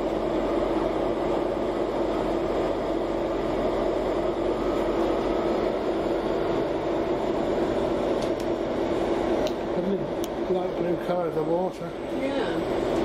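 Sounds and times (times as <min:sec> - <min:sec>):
constant hum: 0:00.0 - 0:13.0.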